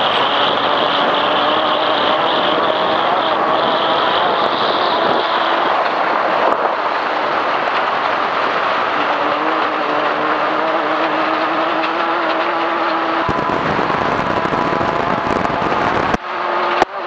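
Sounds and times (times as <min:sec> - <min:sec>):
gravel rush: 0:00.0 - 0:17.0
vehicle engine and drivetrain: 0:00.0 - 0:17.0
wind: 0:00.0 - 0:17.0.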